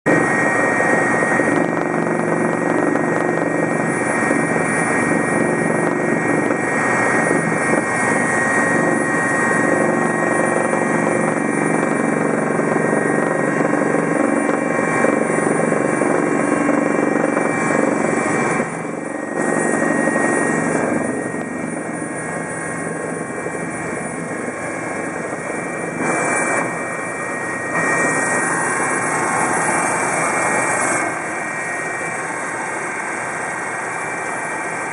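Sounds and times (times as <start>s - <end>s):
helicopter cabin drone: 0.1s - 34.9s
high turbine whine: 0.1s - 34.9s.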